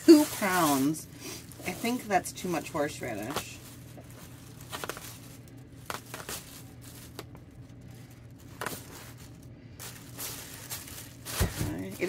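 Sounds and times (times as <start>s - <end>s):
plastic bag and paper crinkling: 0.0s - 12.0s.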